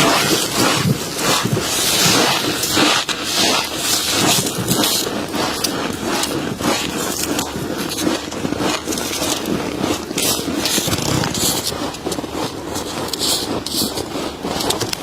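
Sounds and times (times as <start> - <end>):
frost crunching: 0.0 - 15.0.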